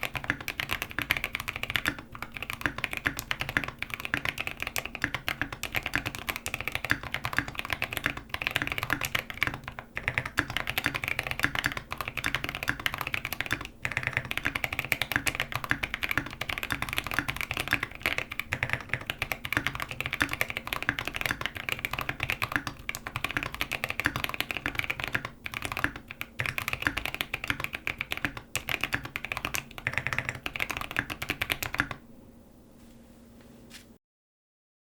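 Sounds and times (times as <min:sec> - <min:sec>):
mechanical keyboard typing: 0:00.0 - 0:32.0.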